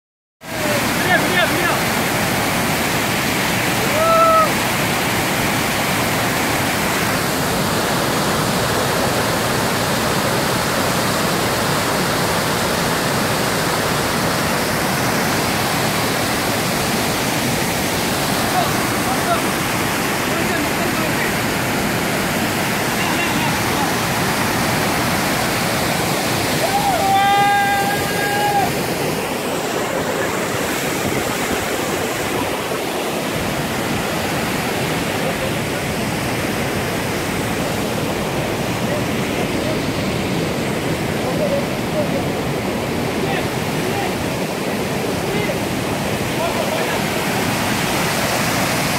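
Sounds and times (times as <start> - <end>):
waterfall rushing onto rocks: 0.4 - 48.9.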